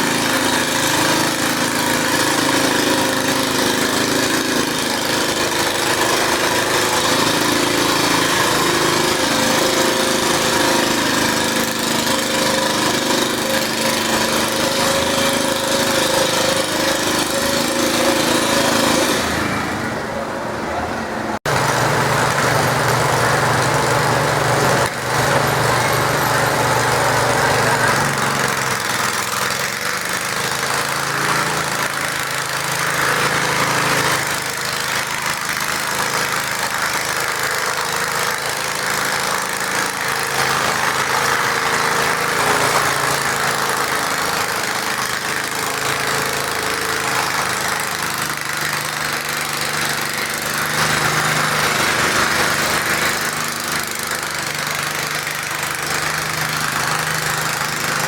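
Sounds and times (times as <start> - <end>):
garden tractor engine under load: 0.0 - 58.0.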